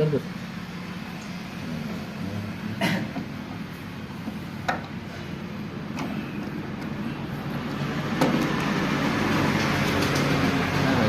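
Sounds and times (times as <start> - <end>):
steady rumble: 0.2 - 11.0.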